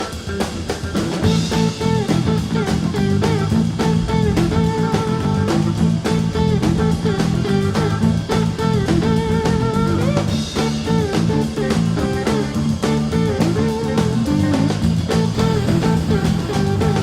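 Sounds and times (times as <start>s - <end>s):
bass and drum beat: 0.0s - 17.0s
rock music with electric guitar: 0.0s - 17.0s.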